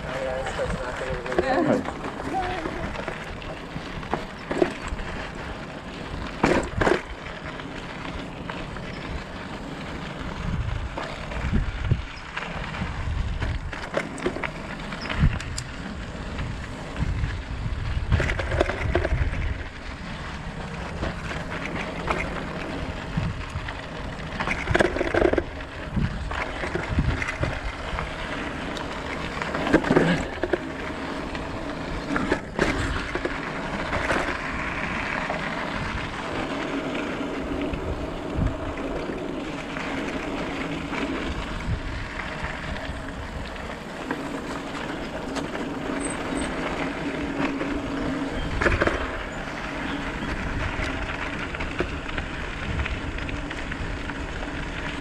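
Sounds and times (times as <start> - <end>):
bike rattling over bumps: 0.0 - 55.0
bike tyres crunching on gravel: 0.0 - 55.0
wind buffeting microphone: 8.6 - 13.9, 15.0 - 29.4, 30.2 - 55.0.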